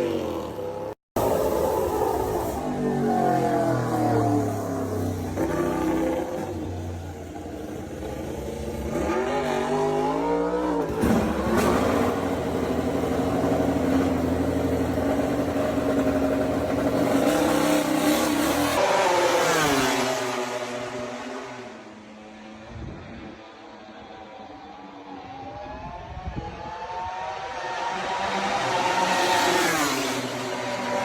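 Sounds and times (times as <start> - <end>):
racing motorcycle engine revving: 0.0 - 23.2, 24.2 - 31.0.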